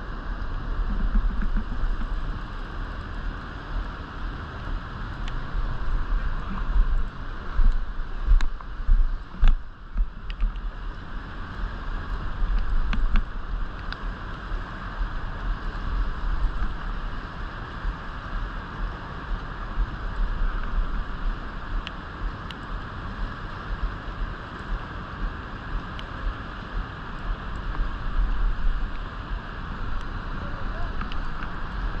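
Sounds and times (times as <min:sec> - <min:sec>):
river water rushing: 0:00.0 - 0:32.0
wind buffeting microphone: 0:00.0 - 0:32.0.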